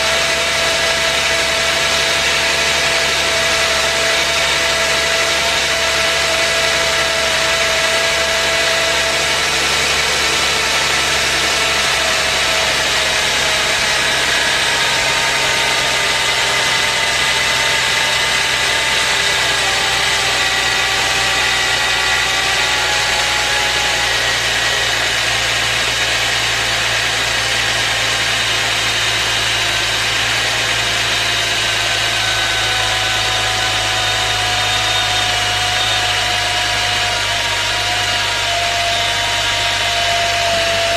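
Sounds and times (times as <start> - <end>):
car engine idling: 0.0 - 40.9
power steering pump whine: 0.0 - 40.9.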